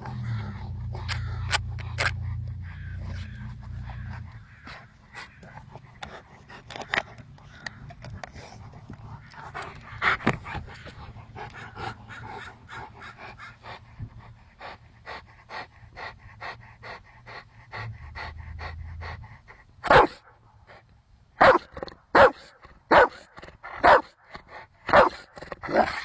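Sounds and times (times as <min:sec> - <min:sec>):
dog panting hard: 0:00.0 - 0:20.9, 0:23.0 - 0:25.7.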